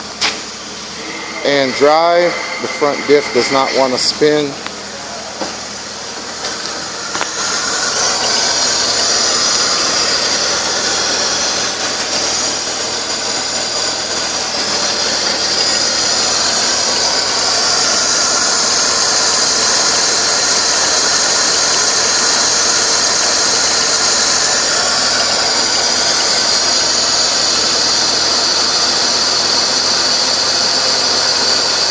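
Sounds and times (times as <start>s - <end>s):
car engine running: 0.0s - 31.9s
high-pitched squeal: 0.5s - 31.9s.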